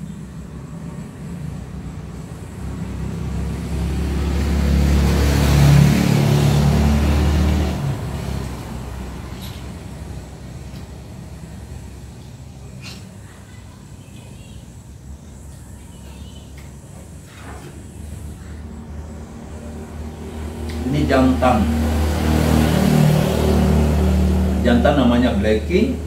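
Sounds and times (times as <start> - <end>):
motor vehicle passing by: 0.0 - 13.2, 17.0 - 26.0.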